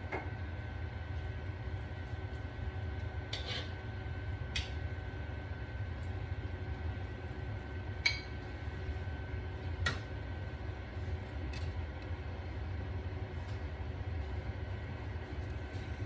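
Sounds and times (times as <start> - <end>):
kitchen hum: 0.0 - 16.0.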